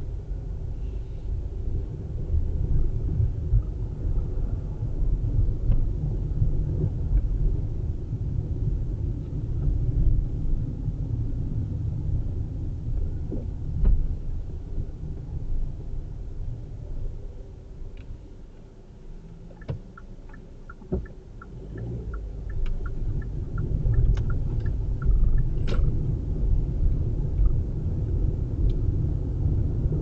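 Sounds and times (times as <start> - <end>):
car driving rumble: 0.0 - 30.0.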